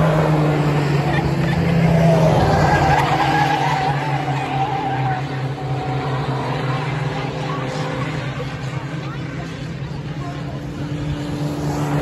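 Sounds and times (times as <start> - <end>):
racing truck engines: 0.0 - 12.0.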